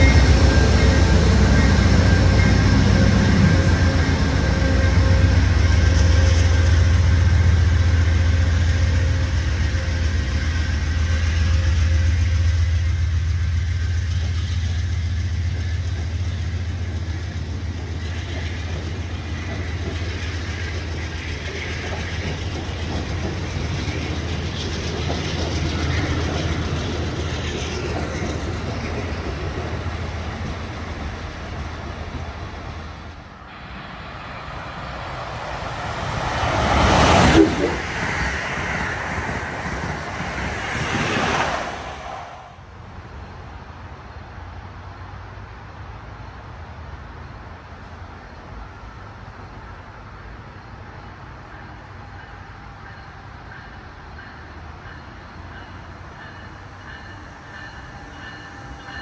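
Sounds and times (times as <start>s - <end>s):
train rolling on rails: 0.0s - 59.0s.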